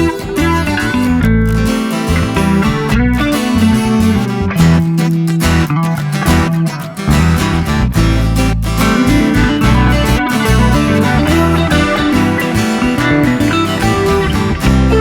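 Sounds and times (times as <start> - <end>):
bass line: 0.0 - 15.0
strummed acoustic guitar: 0.0 - 15.0.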